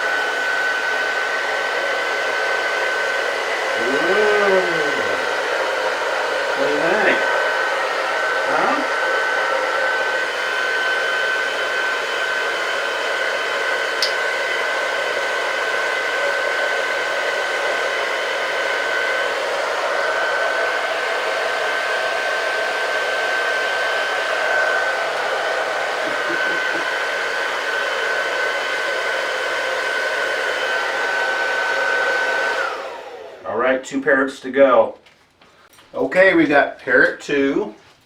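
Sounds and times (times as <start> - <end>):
hair dryer running: 0.0 - 33.6.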